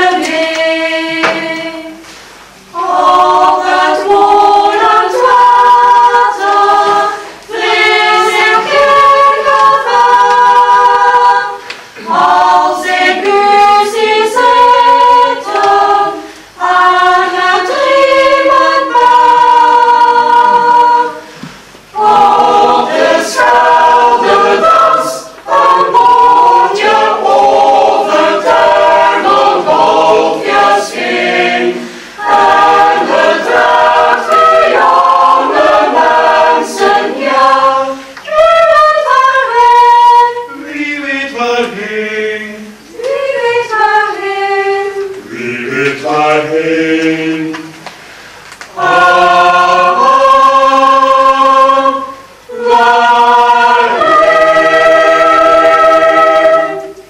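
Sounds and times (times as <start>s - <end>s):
mixed choir singing: 0.0s - 47.9s, 48.7s - 57.0s.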